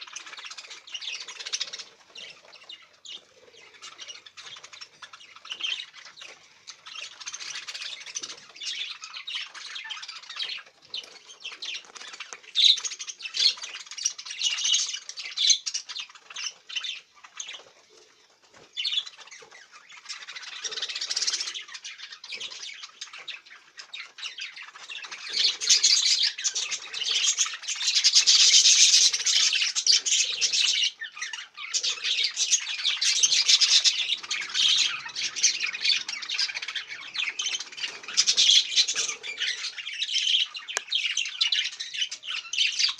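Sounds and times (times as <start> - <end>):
parrots chattering and chirping: 0.0 - 42.9.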